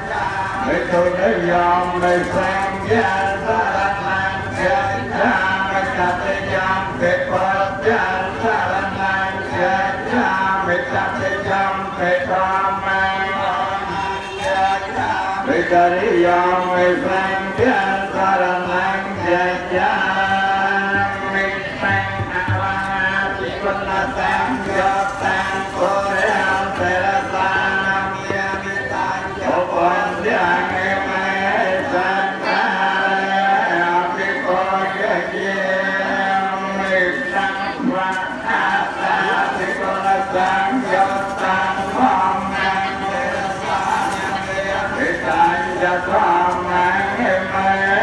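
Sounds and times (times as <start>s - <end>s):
man chanting: 0.0s - 48.0s
traditional music held notes: 0.0s - 48.0s.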